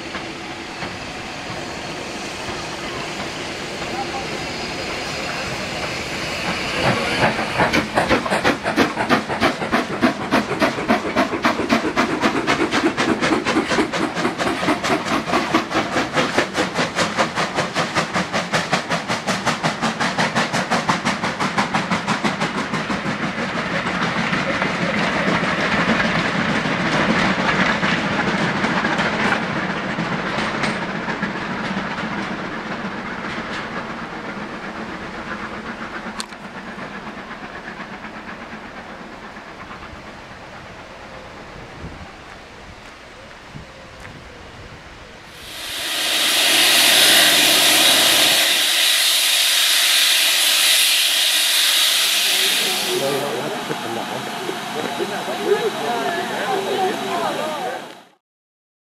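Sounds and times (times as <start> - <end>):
steam locomotive exhaust chuffs: 0.0 - 40.9, 45.3 - 58.2
steam hiss: 0.0 - 42.0, 45.2 - 58.2.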